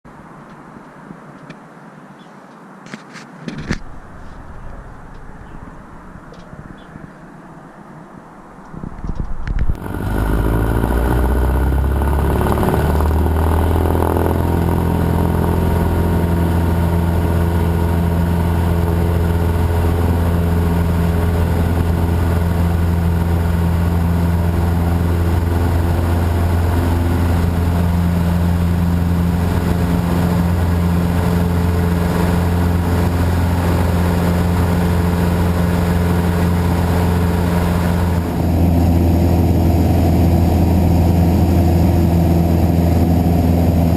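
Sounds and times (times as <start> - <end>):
propeller airplane engine droning: 3.5 - 43.9.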